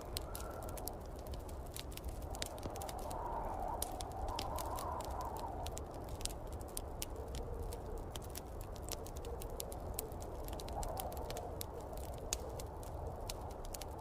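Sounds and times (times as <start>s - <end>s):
howling wind: 0.0s - 14.0s
wood fire crackling: 0.0s - 14.0s.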